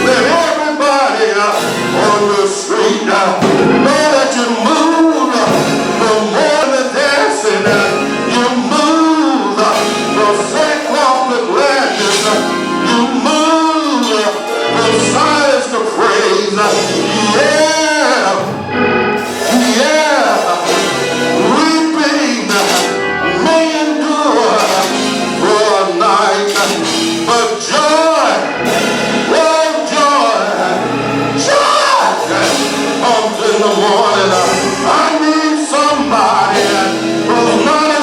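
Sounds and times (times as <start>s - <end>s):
gospel singing: 0.0s - 38.0s
instrumental accompaniment: 0.0s - 38.0s.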